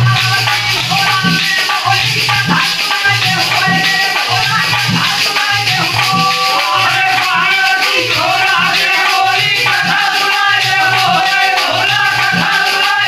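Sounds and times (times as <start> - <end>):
hand drum beating: 0.0 - 13.0
men singing in a group: 0.0 - 13.0
metallic rattling percussion: 0.0 - 13.0.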